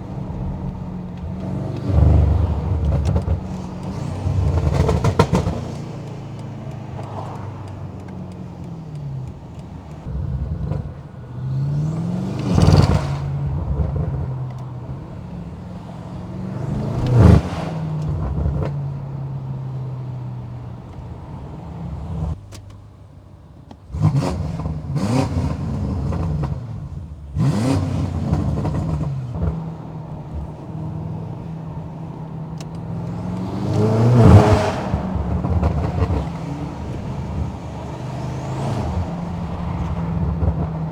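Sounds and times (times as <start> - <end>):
car engine revving hard: 0.0 - 22.4, 23.9 - 40.9.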